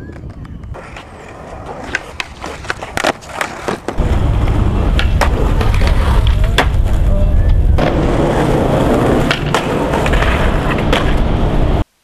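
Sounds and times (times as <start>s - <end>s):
skateboard wheels rumbling on pavement: 0.0s - 11.9s
skateboard clacks and knocks: 0.1s - 7.1s, 7.8s - 11.4s.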